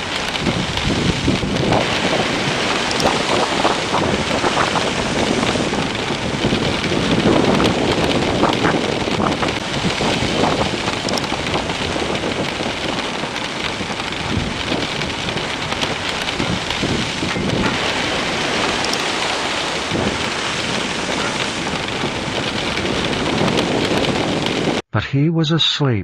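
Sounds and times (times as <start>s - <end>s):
heavy rain: 0.0s - 24.8s
low thunder rumbling: 0.0s - 24.8s.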